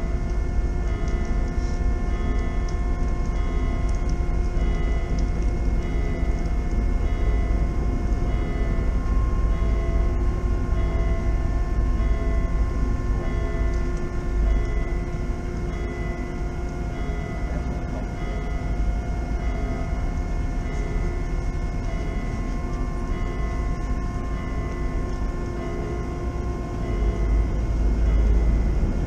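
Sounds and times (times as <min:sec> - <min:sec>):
ship engines droning: 0:00.0 - 0:29.0.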